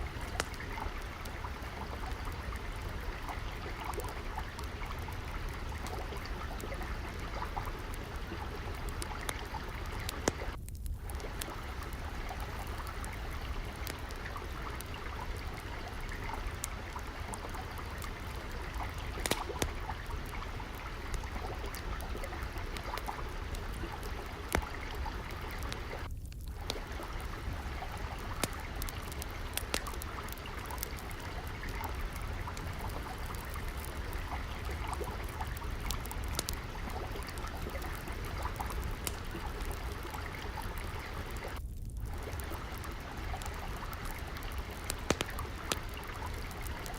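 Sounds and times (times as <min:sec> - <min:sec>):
water trickling and flowing: 0:00.0 - 0:46.9
wood fire crackling: 0:00.0 - 0:46.9.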